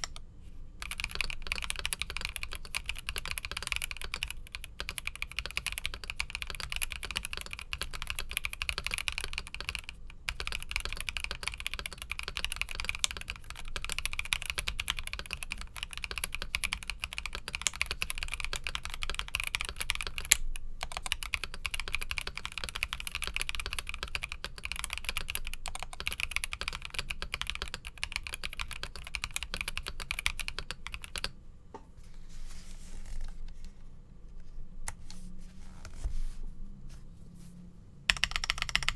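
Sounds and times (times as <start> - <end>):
mechanical keyboard typing: 0.8 - 31.3, 38.1 - 38.9.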